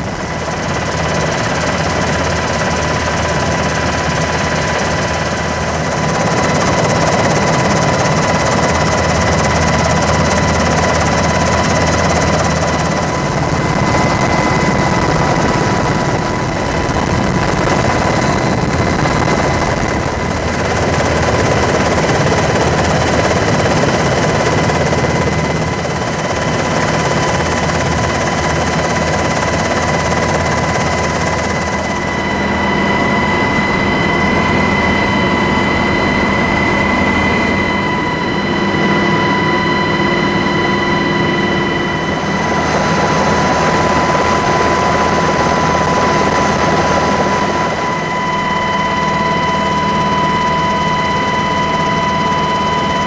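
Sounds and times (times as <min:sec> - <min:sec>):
helicopter rotor and turbine noise: 0:00.0 - 0:53.0.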